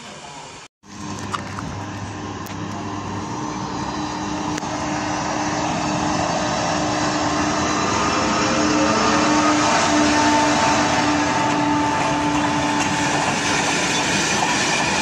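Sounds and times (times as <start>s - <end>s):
electric locomotive humming: 0.0s - 15.0s
wheel and rail noise: 0.0s - 15.0s.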